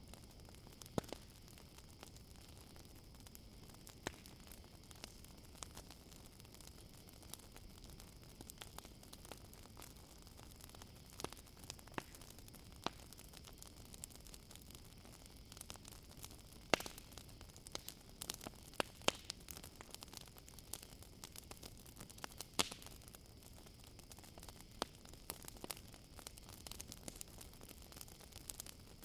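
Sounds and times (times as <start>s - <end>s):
campfire wood crackling: 0.0s - 29.0s.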